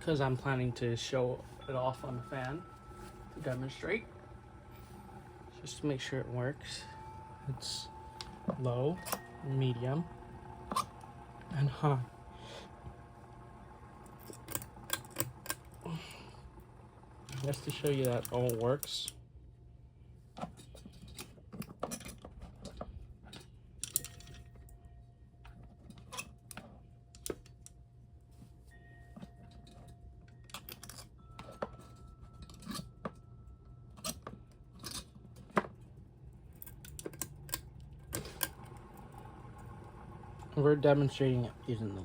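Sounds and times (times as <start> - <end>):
ceiling fan hum: 0.0 - 42.0.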